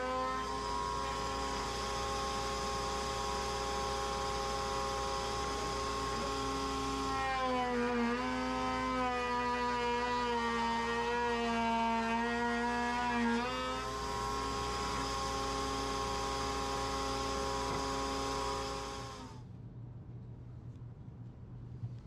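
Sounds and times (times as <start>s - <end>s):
router whining: 0.0s - 19.4s.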